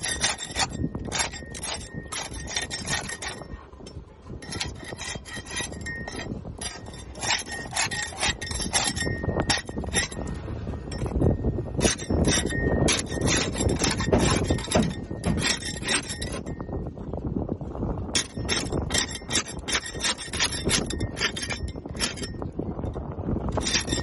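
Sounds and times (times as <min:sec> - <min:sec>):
barnacles scraped off hull: 0:00.0 - 0:16.6, 0:18.2 - 0:22.4, 0:23.5 - 0:24.0.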